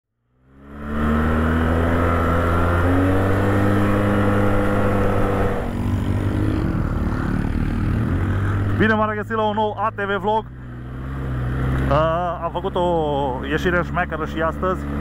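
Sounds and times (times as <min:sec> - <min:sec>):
atv engine running: 0:00.3 - 0:15.0.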